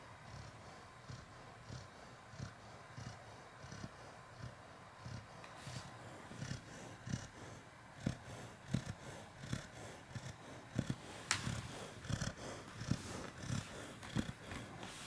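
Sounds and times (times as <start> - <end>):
dog snoring: 0.0 - 14.8.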